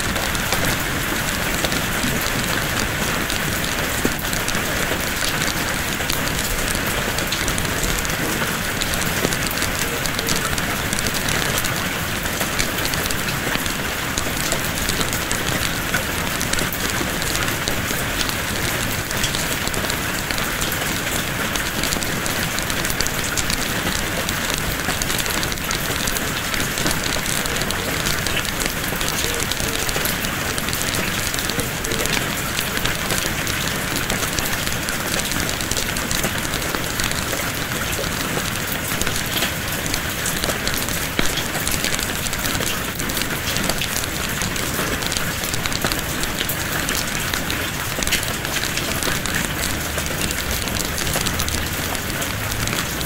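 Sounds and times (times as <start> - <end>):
steady rain: 0.0 - 53.0
wood fire crackling: 0.0 - 53.0.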